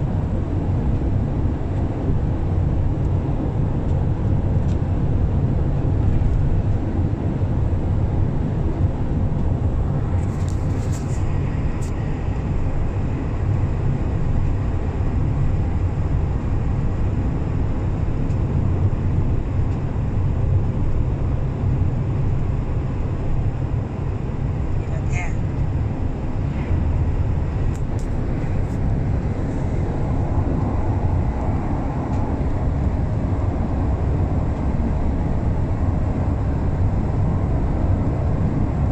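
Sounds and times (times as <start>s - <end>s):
car cabin road rumble: 0.0s - 38.9s.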